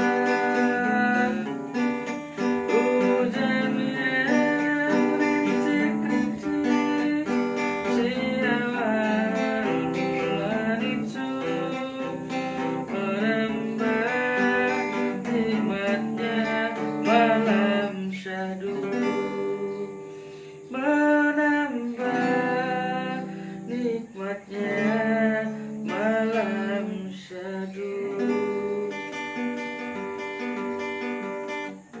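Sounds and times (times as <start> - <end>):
acoustic guitar plucked and strummed: 0.0 - 32.0
person singing: 0.0 - 32.0.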